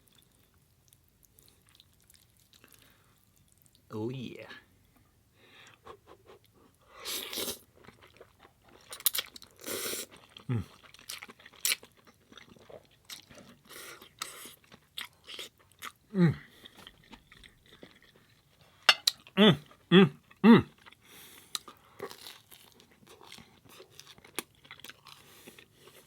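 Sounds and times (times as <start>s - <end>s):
chewing with crunches: 0.0s - 3.9s, 5.6s - 26.0s.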